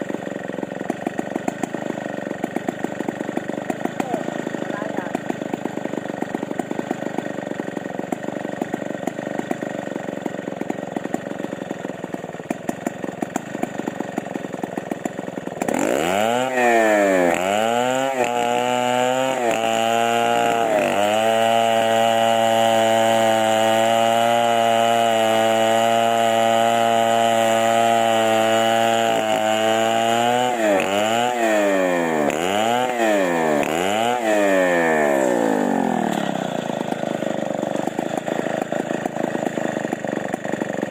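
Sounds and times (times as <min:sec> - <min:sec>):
chainsaw engine idling and revving: 0:00.0 - 0:40.9.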